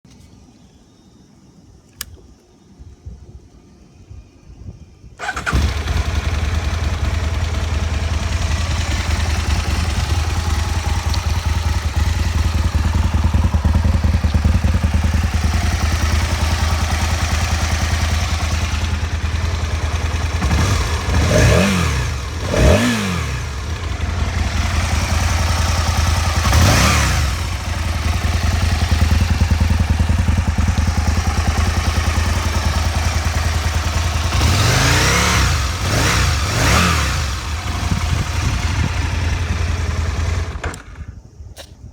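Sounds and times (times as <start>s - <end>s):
motorcycle engine starting and idling: 5.2s - 41.9s
motorcycle throttle blips: 5.2s - 41.9s.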